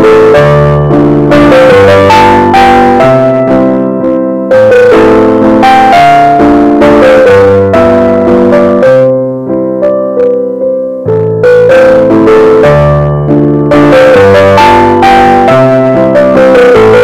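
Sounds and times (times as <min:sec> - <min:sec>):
slow keyboard melody: 0:00.0 - 0:17.0.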